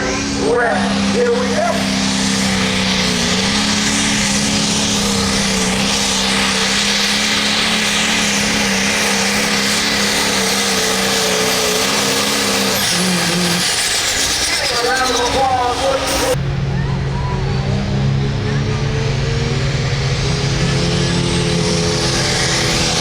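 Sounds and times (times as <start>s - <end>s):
diesel tractor engine under load: 0.0s - 23.0s.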